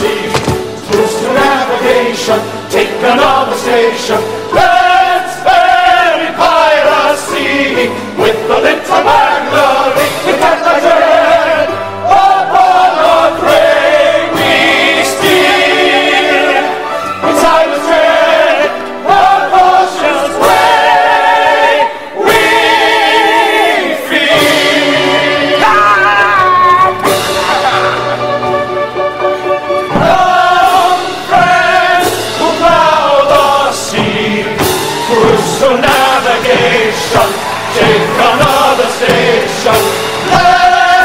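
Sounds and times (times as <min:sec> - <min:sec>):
male chorus singing operetta: 0:00.0 - 0:26.3, 0:29.9 - 0:41.0
instrumental accompaniment: 0:00.0 - 0:41.0.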